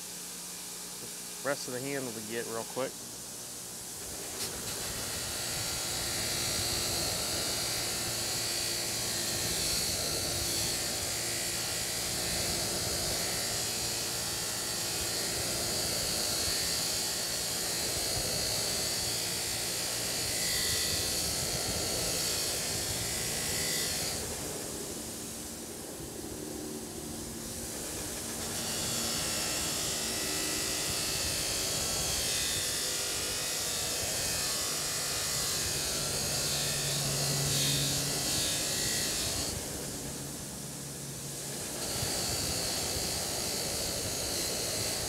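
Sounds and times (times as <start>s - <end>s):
bench grinder motor running: 3.8s - 45.0s.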